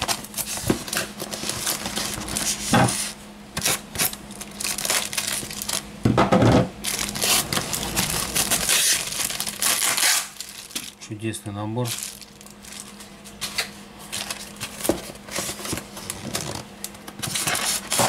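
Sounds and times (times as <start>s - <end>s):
plastic and foam packaging rustling: 0.0s - 6.0s, 6.8s - 18.0s.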